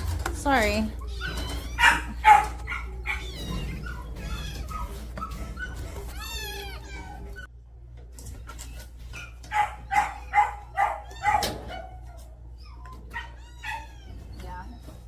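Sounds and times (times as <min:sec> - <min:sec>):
kittens mewing: 0:00.9 - 0:07.5, 0:09.2 - 0:15.0.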